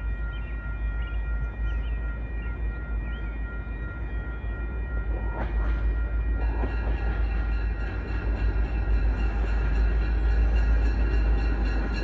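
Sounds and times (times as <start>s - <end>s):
train deep rumble: 0.0s - 12.0s.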